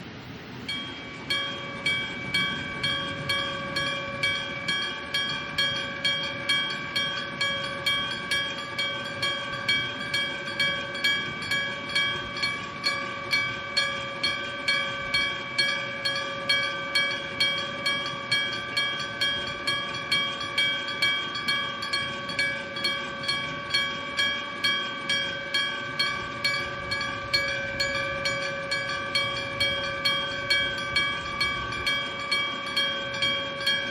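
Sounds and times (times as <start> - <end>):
level crossing bell ringing: 0.7 - 33.9.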